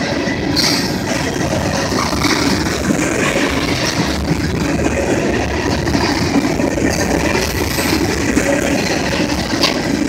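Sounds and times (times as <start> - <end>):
steel wheels rumbling on rails: 0.0 - 10.0.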